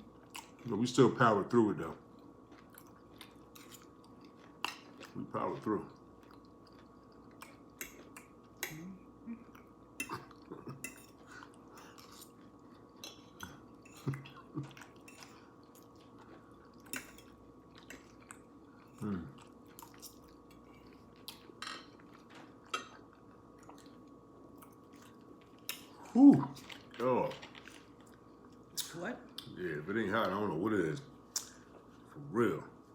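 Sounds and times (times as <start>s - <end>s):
person chewing food: 0.0s - 0.7s, 2.0s - 29.5s.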